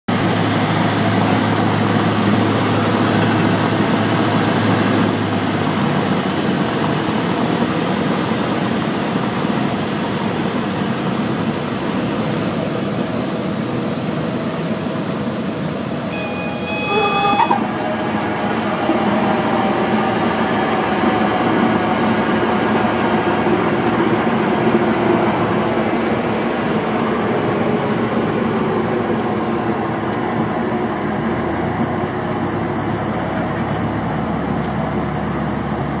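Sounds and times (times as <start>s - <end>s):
small plane engine drone: 0.1s - 36.0s.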